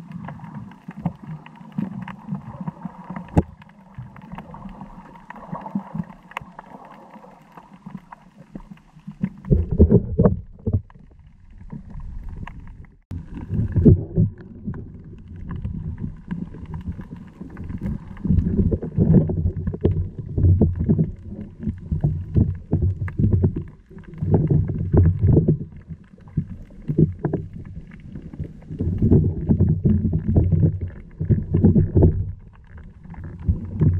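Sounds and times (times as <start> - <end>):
muffled underwater water surging: 0.0 - 33.9.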